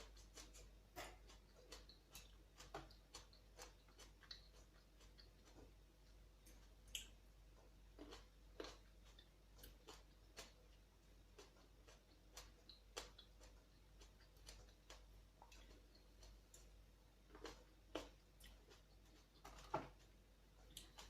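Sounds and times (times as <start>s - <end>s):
clicks and smacks of eating: 0.0s - 21.0s.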